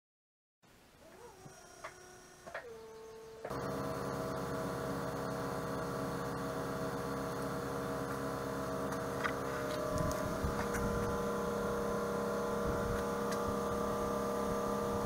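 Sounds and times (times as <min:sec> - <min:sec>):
machine hum with held tones: 0:01.0 - 0:15.0.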